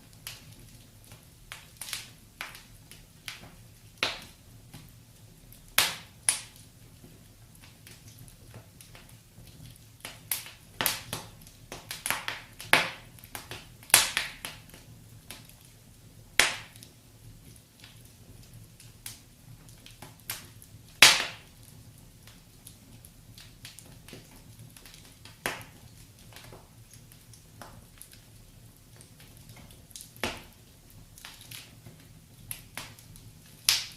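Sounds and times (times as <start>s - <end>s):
fire crackling and popping: 0.0s - 33.9s.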